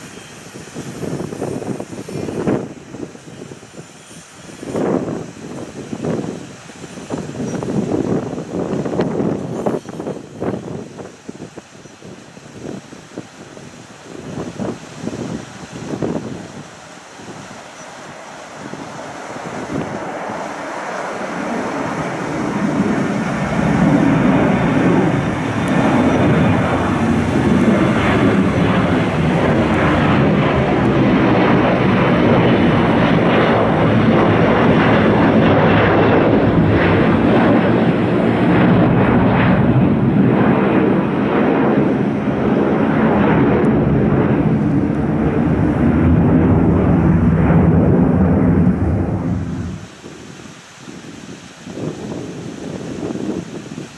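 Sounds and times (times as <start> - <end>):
jet engines rumbling overhead: 0.0 - 53.9.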